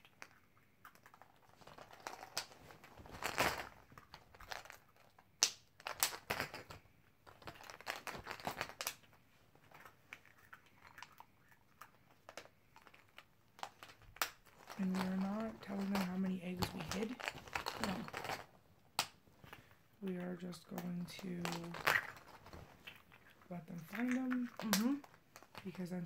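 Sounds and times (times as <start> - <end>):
plastic crinkling and rustling: 1.0 - 18.6, 19.2 - 26.0.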